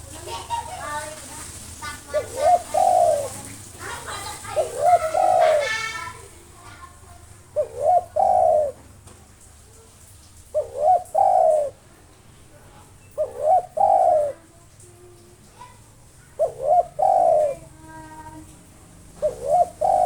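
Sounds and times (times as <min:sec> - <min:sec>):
dove cooing: 0:00.0 - 0:12.1, 0:12.9 - 0:20.0.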